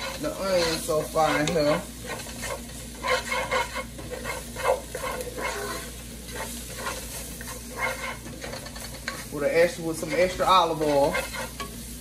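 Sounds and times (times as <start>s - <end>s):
spoon scraping and stirring pot: 0.0s - 11.9s
onion sizzling in oil: 0.0s - 12.0s.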